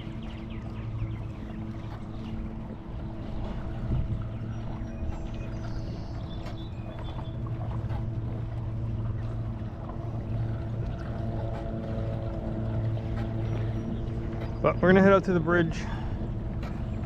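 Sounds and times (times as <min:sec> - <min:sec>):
motor drone: 0:00.0 - 0:17.0
water noise: 0:00.0 - 0:17.0
wind: 0:00.0 - 0:17.0.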